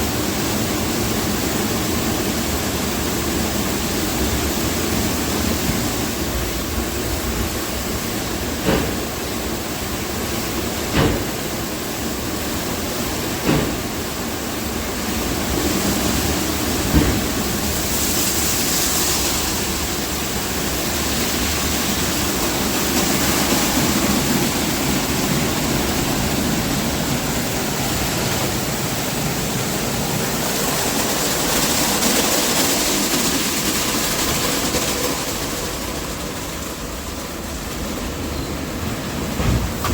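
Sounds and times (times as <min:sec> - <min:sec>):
car wash spraying water: 0:00.0 - 0:39.9.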